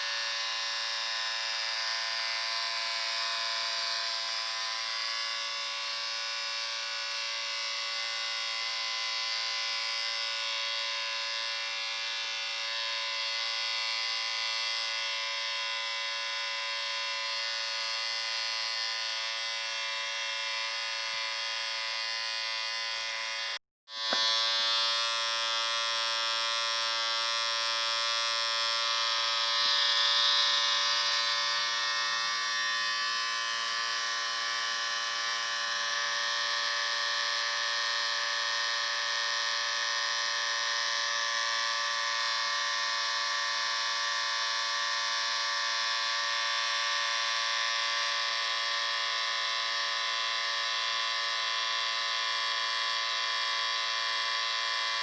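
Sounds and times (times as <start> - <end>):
electric shaver buzzing: 0.0 - 55.0.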